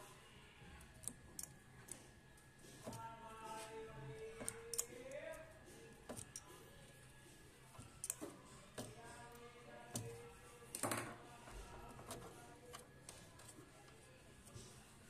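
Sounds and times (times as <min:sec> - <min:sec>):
faint plastic and metal clicks: 0:00.7 - 0:07.0, 0:07.6 - 0:15.0.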